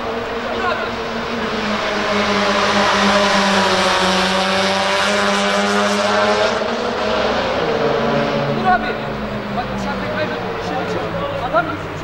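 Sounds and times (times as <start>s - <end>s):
loud motor running steadily: 0.0s - 12.0s.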